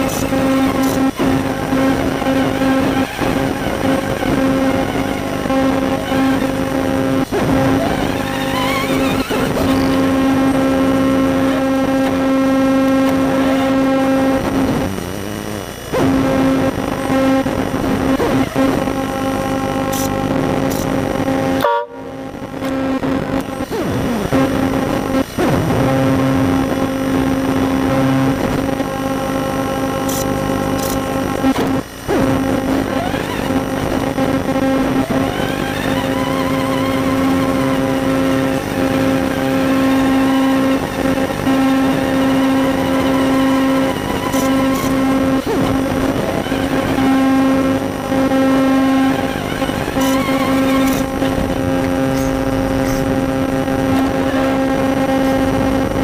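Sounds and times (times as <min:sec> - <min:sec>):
toy truck motor whine: 0:00.0 - 0:21.6, 0:27.3 - 0:55.5.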